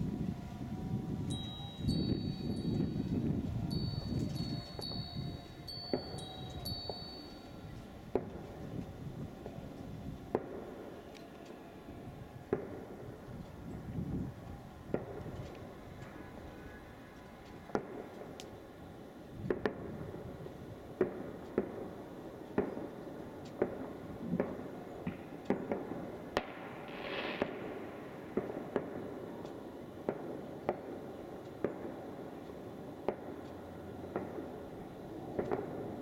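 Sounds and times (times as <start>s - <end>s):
distant fireworks popping: 5.8s - 11.6s, 12.4s - 36.0s.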